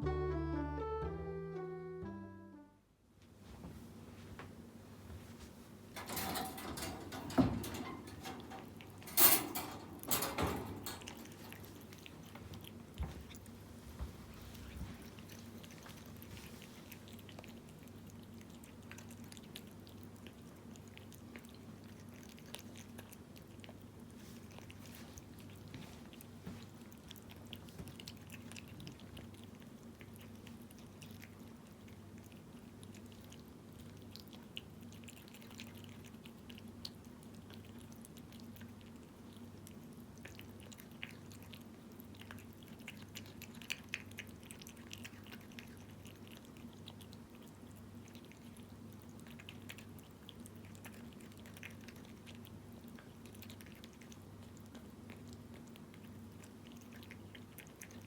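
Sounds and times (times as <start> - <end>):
cat chewing wet food: 8.4 - 9.0, 11.0 - 58.0.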